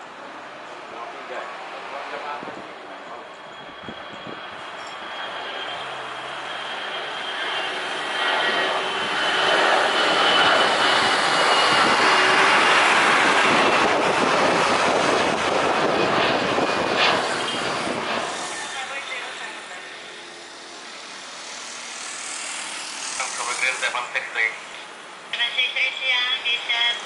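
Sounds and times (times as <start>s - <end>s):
jet airliner climbing roar: 0.0s - 27.0s.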